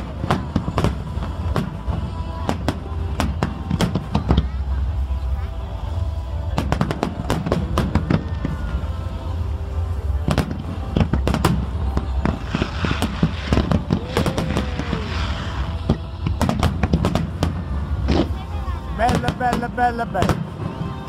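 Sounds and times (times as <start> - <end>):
fireworks bangs and crackles: 0.0 - 21.0
low rumble: 0.0 - 21.0.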